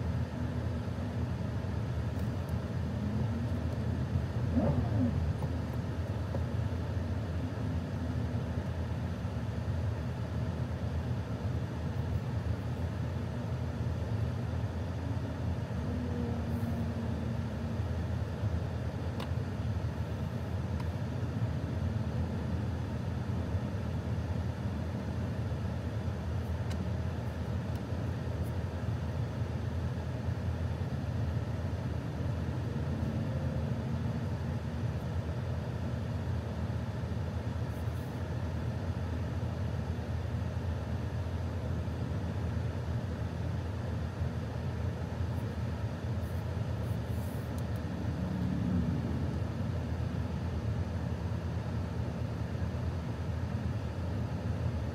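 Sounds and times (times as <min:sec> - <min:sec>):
car engine idling inside cabin: 0:00.0 - 0:54.9.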